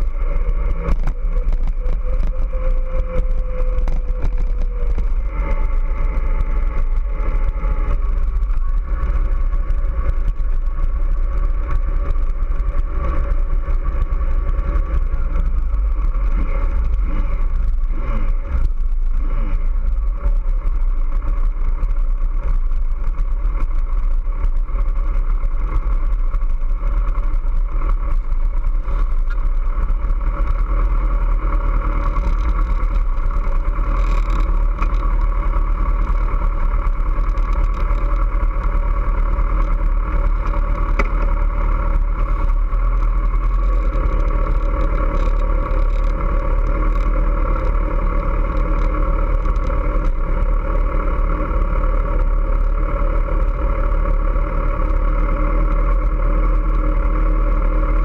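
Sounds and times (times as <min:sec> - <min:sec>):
low wind and mount rumble: 0:00.0 - 0:58.0
motorcycle engine running: 0:00.0 - 0:58.0.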